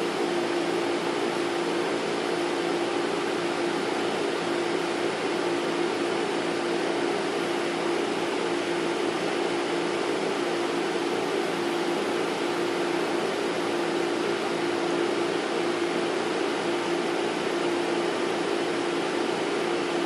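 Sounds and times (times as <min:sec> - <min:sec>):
fan humming: 0:00.0 - 0:20.0.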